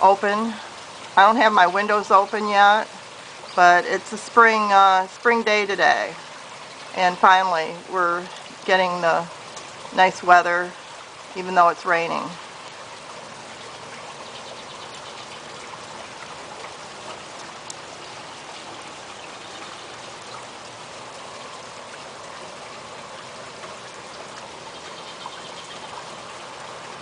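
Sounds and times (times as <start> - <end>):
drops ticking: 0.0 - 27.0
light rain falling: 0.0 - 27.0.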